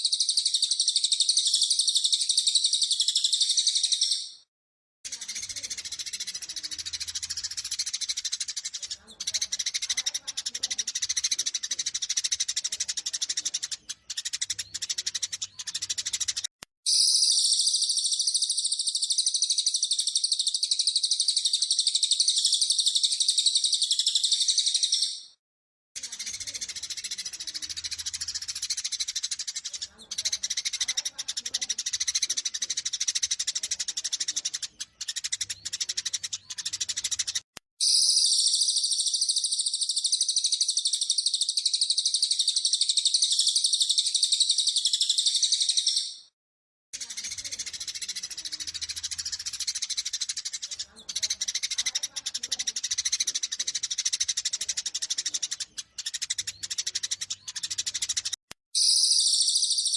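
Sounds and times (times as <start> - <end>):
sparrows chattering and chirping: 0.0 - 4.5, 5.1 - 25.4, 26.0 - 46.4, 47.0 - 59.9.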